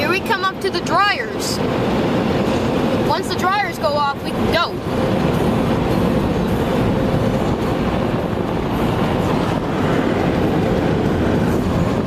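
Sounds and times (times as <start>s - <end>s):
blow dryers rushing air: 0.0s - 12.0s.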